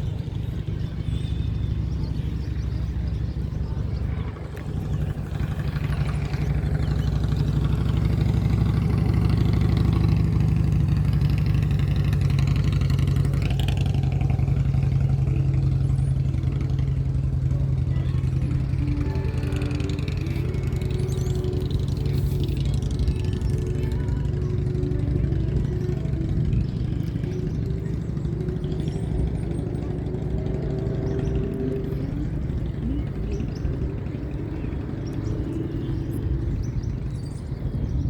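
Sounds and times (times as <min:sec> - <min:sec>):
engine running with low hum: 0:00.0 - 0:38.0.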